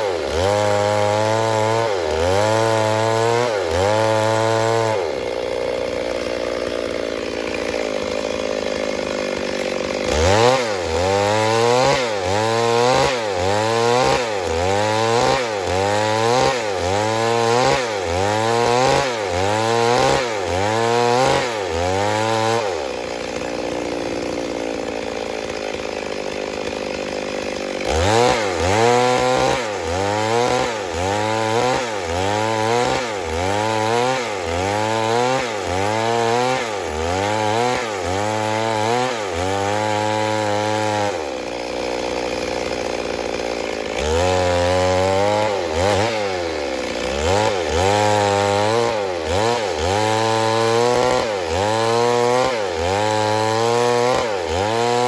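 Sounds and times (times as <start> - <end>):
chainsaw running: 0.0 - 55.0.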